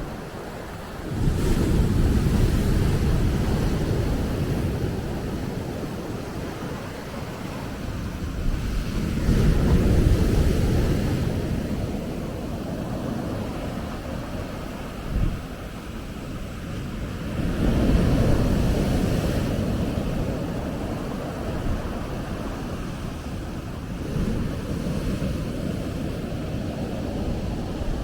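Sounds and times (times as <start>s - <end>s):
ocean waves breaking: 0.0s - 28.0s
wind rumbling on microphone: 0.0s - 28.0s.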